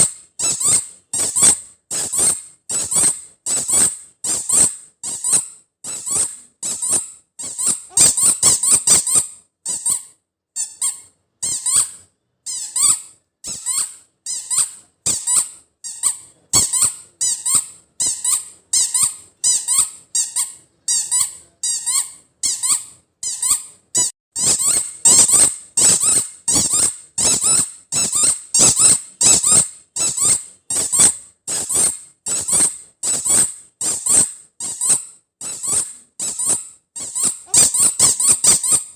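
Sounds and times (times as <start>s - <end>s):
rubber squeak toy squeaking: 0.0s - 38.9s.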